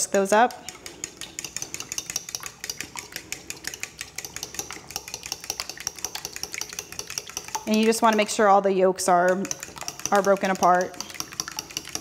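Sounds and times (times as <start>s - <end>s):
fork whisking eggs in bowl: 0.0s - 12.0s.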